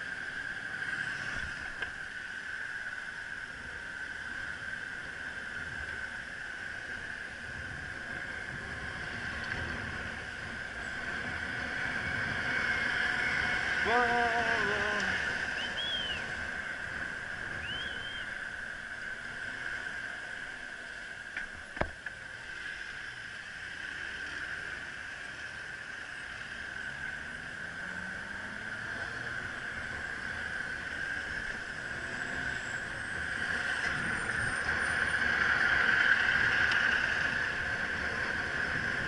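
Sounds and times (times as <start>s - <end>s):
electric bicycle motor whine: 0.0s - 39.0s
low traffic rumble: 0.0s - 39.0s.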